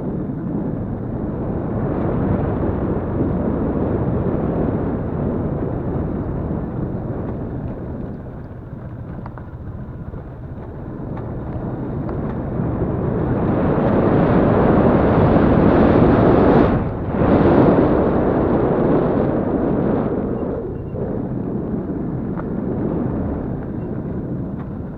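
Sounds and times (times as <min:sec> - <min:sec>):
motorcycle engine running: 0:00.2 - 0:24.9.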